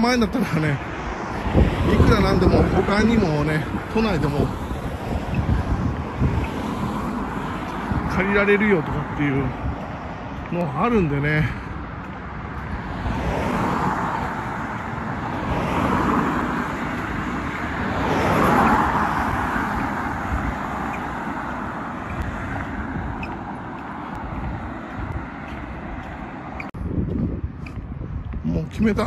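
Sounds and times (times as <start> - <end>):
cars passing by: 0.0 - 29.0.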